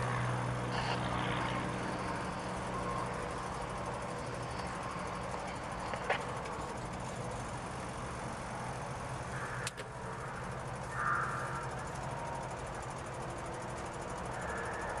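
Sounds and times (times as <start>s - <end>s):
propeller plane engine idling: 0.0s - 15.0s.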